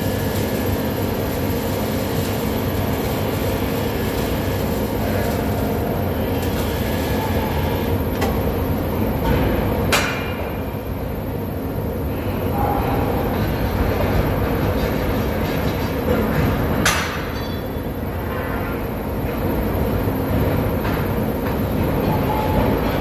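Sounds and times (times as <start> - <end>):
rumbling machinery: 0.0 - 23.0.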